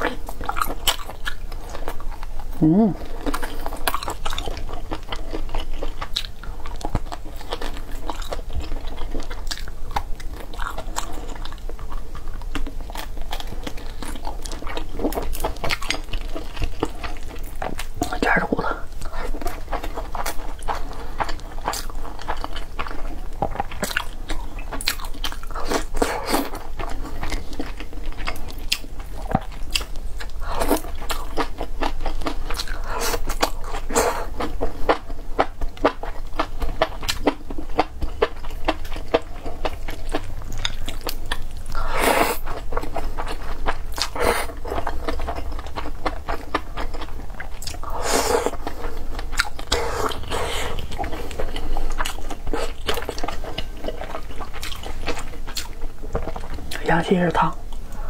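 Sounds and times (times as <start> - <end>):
person chewing food: 0.0 - 56.9, 57.6 - 58.0.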